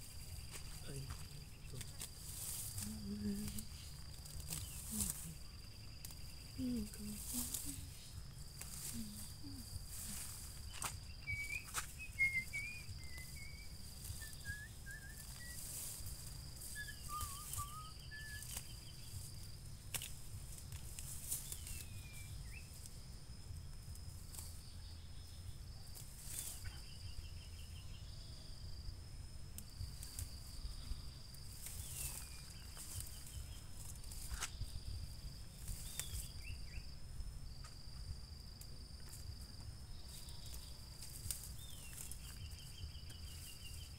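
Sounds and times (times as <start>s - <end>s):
weeds pulled by hand: 0.0s - 27.7s, 29.5s - 43.9s
birds chirping and trilling: 0.0s - 28.9s, 29.8s - 37.0s, 39.8s - 43.9s
high-pitched insect drone: 0.0s - 43.9s.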